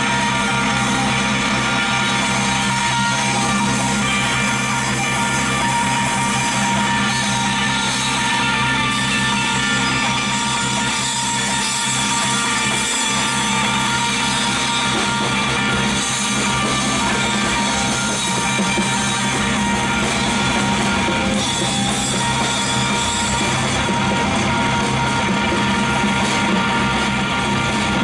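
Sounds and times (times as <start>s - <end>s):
drums: 0.0s - 28.0s
live band playing instrumental: 0.0s - 28.0s.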